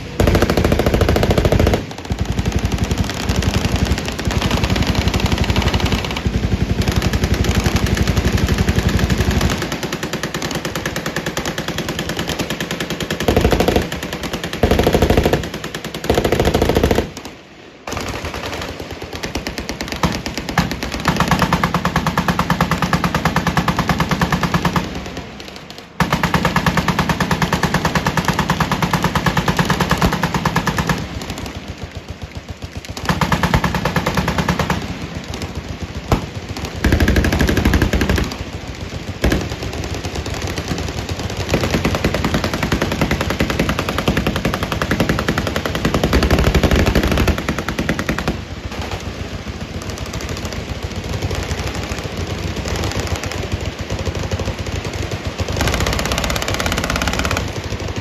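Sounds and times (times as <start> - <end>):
heavy gunfire: 0.0 - 58.0
machine guns firing: 0.0 - 58.0.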